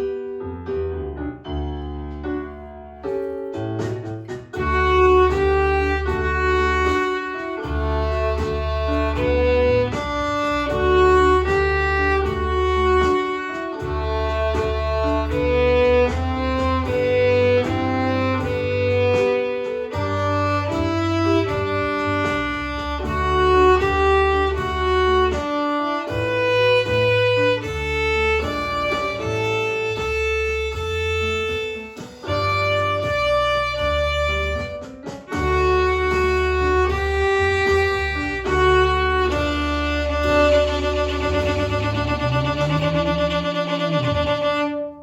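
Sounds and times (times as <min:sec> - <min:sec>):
low bass line: 0:03.6 - 0:45.0
violin playing bluesy tune: 0:04.5 - 0:45.0.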